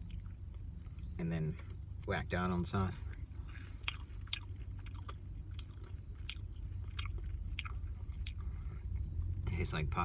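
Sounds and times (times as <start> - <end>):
person chewing food: 0.0 - 2.1, 3.1 - 9.2
steady low hum: 0.0 - 10.0.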